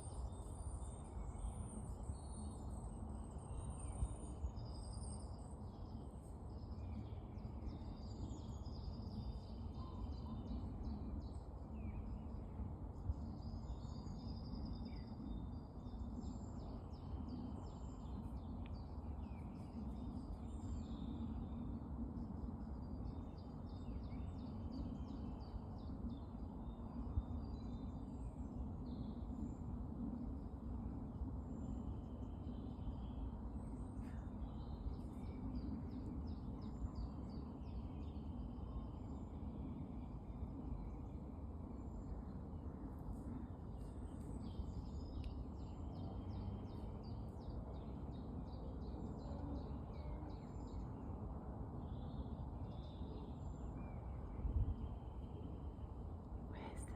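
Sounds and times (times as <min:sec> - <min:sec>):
low background rumble: 0:00.0 - 0:56.9
songbird singing: 0:00.0 - 0:56.9.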